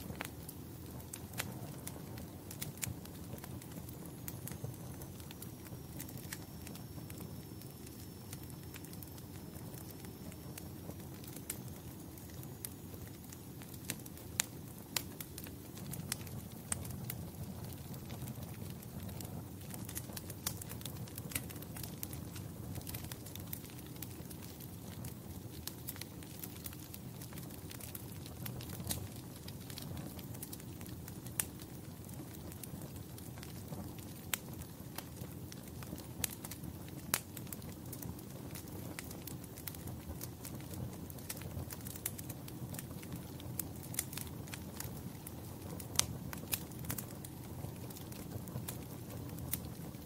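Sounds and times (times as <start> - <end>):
fire crackles and pops: 0.0 - 50.0
low rumble of flames: 0.0 - 50.0.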